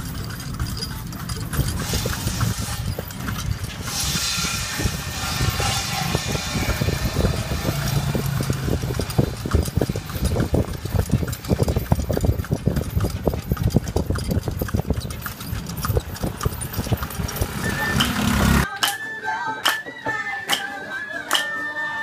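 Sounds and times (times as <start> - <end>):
hooves clip-clopping on pavement: 0.0 - 18.7
steady low rumble: 0.2 - 18.6.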